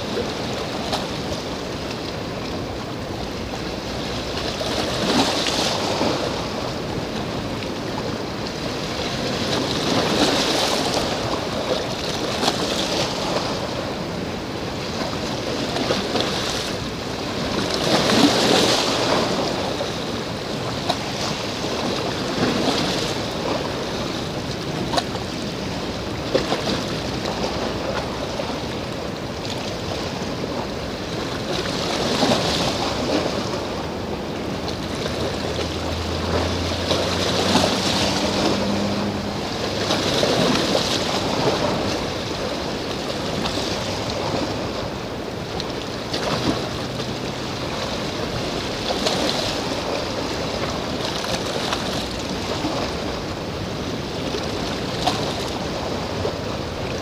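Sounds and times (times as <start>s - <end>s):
sea waves washing on shore: 0.0s - 57.0s
wind on microphone: 4.5s - 57.0s.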